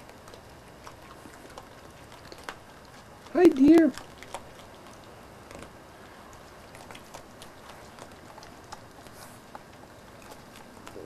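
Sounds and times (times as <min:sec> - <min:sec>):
animals eating feed: 0:00.0 - 0:11.0.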